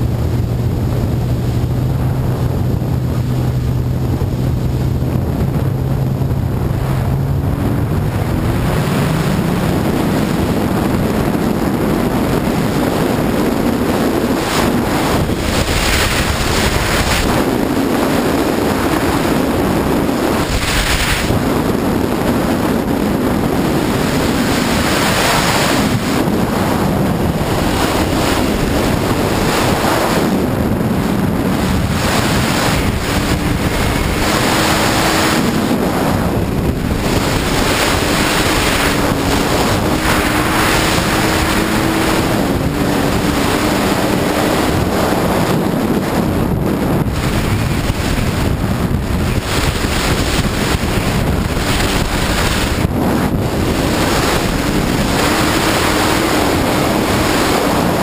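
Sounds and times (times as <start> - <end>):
watercraft engine: 0.0 - 58.0
wind buffeting microphone: 0.0 - 58.0.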